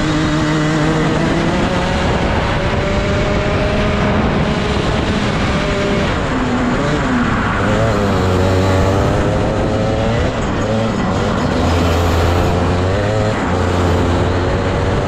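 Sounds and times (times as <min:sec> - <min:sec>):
kart engine racing: 0:00.0 - 0:15.0.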